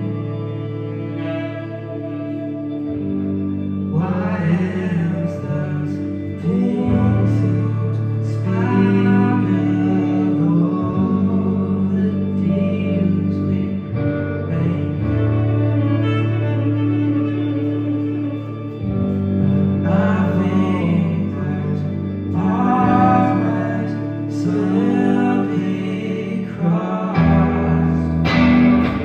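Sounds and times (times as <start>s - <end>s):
low held chords: 0.0s - 29.0s
melody above chords: 0.0s - 29.0s.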